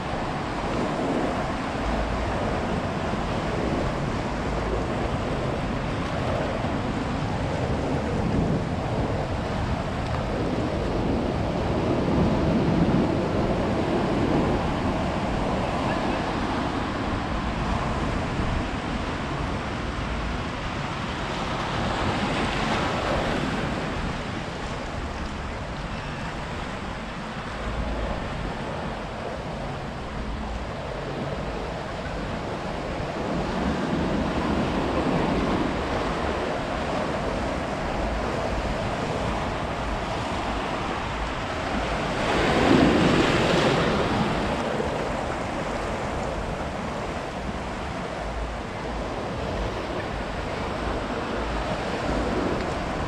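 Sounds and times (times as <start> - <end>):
ocean waves breaking: 0.0 - 53.0
wind buffeting microphone: 0.0 - 53.0.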